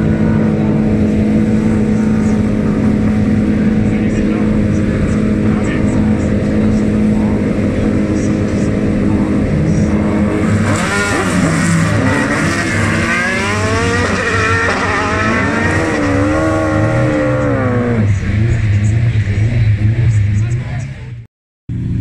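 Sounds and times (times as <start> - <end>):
race car engine revving: 0.0 - 22.0.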